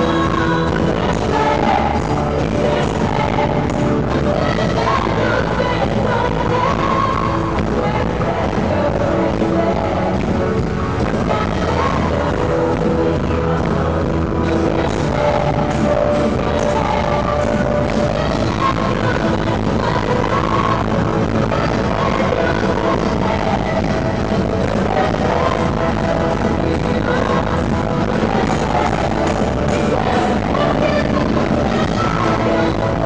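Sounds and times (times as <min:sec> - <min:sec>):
live worship band music: 0:00.0 - 0:33.0
person singing: 0:00.0 - 0:33.0.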